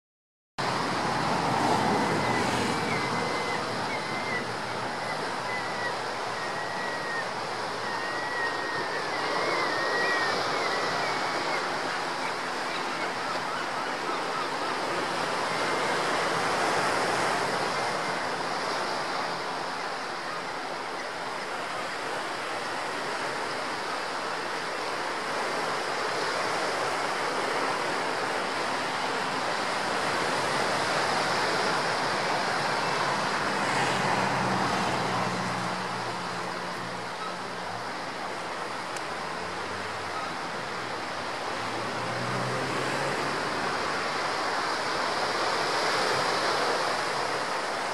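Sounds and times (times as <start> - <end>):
sea: 0.6 - 47.9
wind: 0.6 - 47.9.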